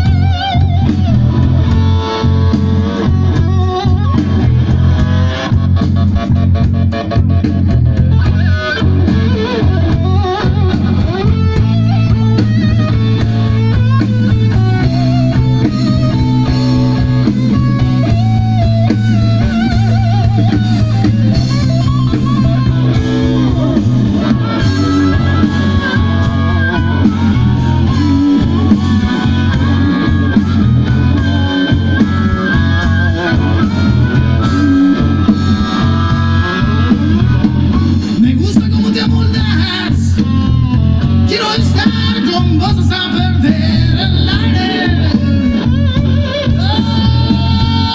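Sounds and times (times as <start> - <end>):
bass line: 0.0 - 47.9
drums: 0.0 - 47.9
electric guitar lead line: 0.0 - 47.9.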